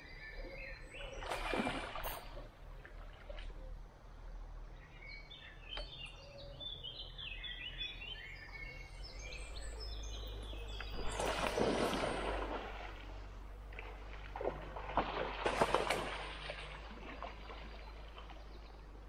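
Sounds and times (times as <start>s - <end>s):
songbird chirping: 0.0s - 14.0s, 16.9s - 19.0s
low steady rumble: 0.0s - 19.0s.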